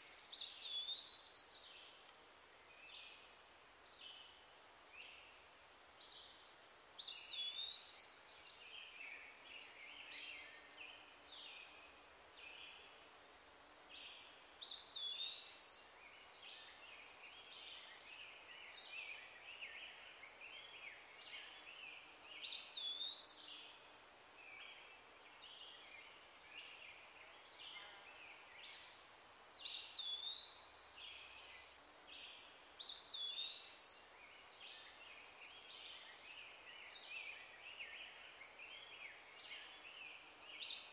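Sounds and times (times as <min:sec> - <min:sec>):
faint steady hiss: 0:00.0 - 0:40.9
songbirds singing and chirping: 0:00.0 - 0:40.9.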